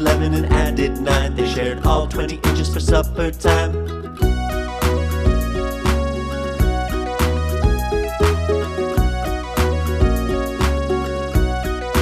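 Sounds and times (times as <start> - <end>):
instrumental children's music: 0.0 - 12.0.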